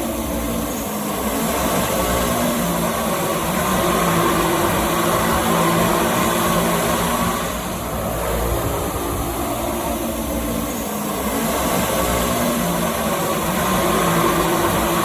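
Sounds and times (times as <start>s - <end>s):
drone buzzing hum: 0.0s - 15.0s.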